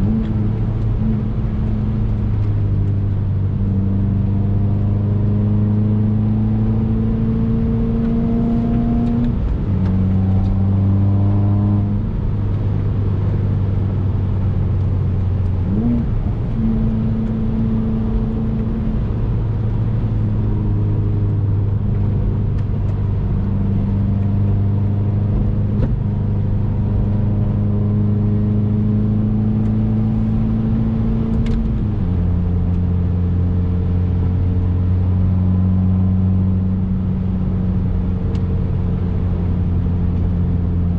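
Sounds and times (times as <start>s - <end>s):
car engine drone: 0.0s - 40.9s
road noise: 0.0s - 40.9s.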